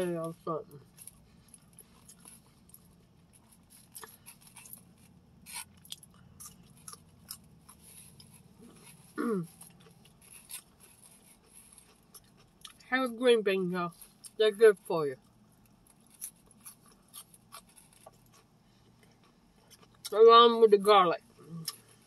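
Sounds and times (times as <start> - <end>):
chewing and crunching food: 0.1 - 14.4, 15.2 - 20.2, 21.2 - 22.0.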